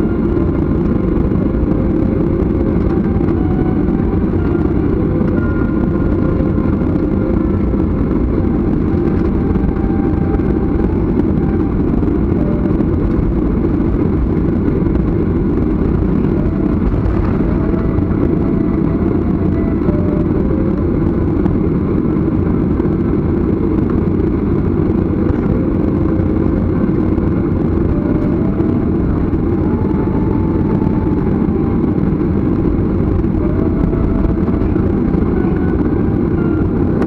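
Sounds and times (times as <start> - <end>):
faint engine whine: 0.0 - 37.0
jet engines rumbling: 0.0 - 37.0.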